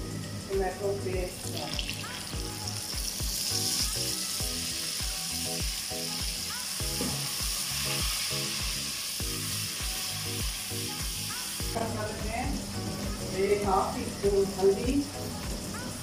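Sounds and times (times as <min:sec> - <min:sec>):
background music with steady beat: 0:00.0 - 0:16.0
food sizzling in a pot: 0:00.0 - 0:16.0.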